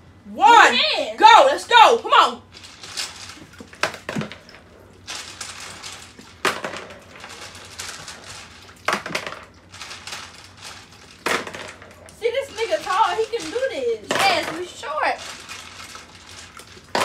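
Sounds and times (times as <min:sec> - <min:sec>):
water sloshing in a plastic tub: 0:01.2 - 0:17.0
marble dropped into plastic bowl: 0:02.6 - 0:17.0
marbles clacking: 0:02.6 - 0:17.0.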